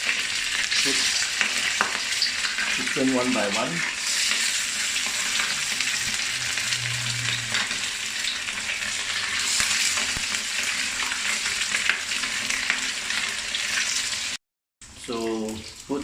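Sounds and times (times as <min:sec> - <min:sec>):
chicken deep-frying in oil: 0:00.0 - 0:16.0.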